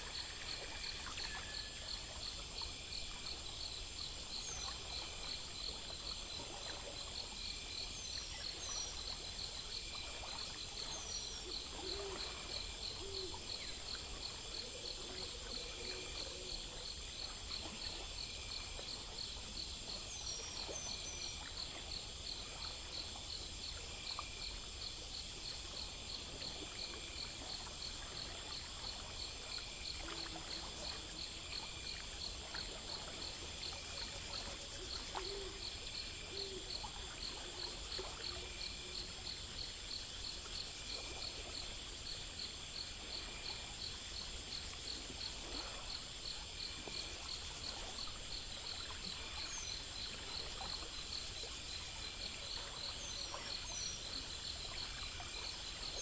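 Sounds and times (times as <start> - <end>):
faint stream trickling: 0.0 - 56.0
insects chirping in pulses: 0.0 - 56.0.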